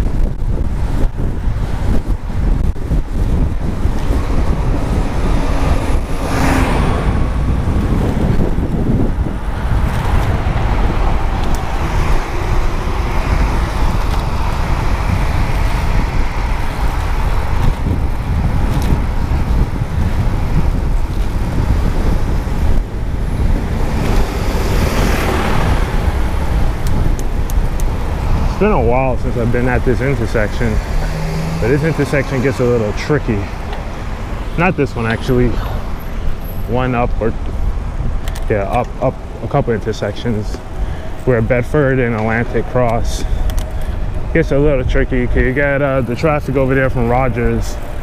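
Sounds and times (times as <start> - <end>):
vehicles passing: 0.0 - 48.0
wind rumble on microphone: 0.0 - 48.0.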